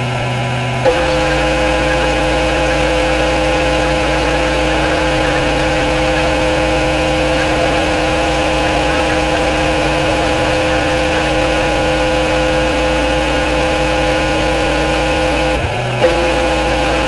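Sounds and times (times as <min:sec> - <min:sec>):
pressure washer running: 0:00.0 - 0:17.0.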